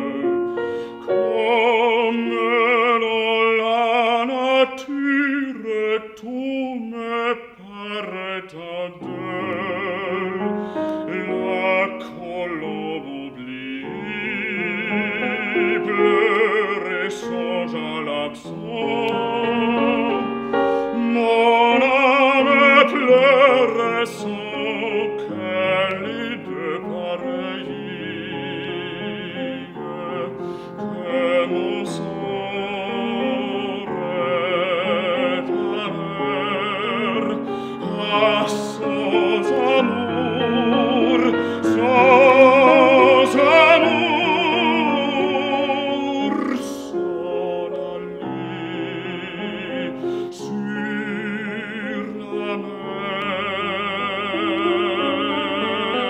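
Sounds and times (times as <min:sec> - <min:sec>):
grand piano: 0:00.0 - 0:56.0
man singing operatically: 0:00.0 - 0:56.0.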